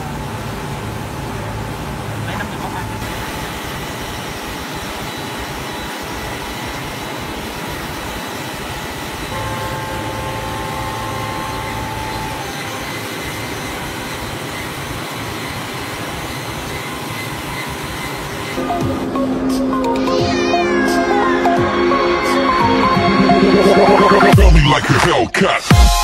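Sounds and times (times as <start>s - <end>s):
faint high whine: 0.0s - 24.3s
woodworking machinery drone: 0.0s - 24.4s.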